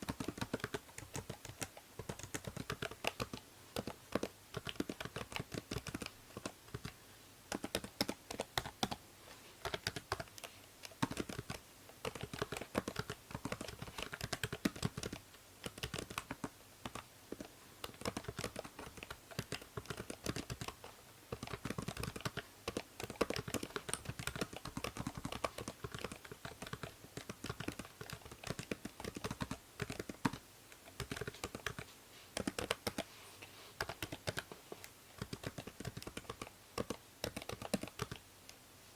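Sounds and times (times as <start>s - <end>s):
computer keyboard typing: 0.0s - 9.0s, 9.6s - 33.1s, 33.8s - 34.5s, 35.2s - 38.2s
steady background hiss: 0.0s - 38.9s.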